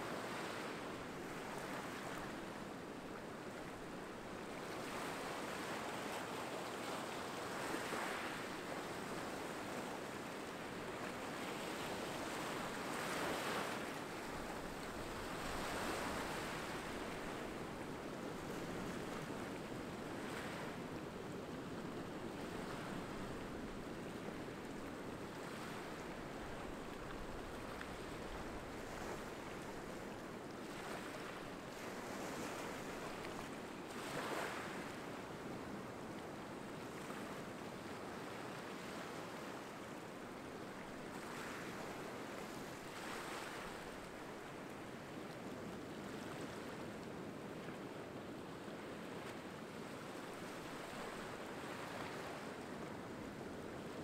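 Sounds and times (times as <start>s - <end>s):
small waves on a pebbly shore: 0.0s - 54.0s.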